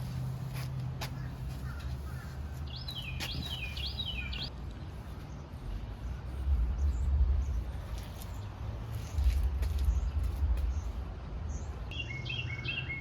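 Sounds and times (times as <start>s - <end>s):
steady low rumble: 0.0s - 12.0s
songbird singing: 1.1s - 13.0s.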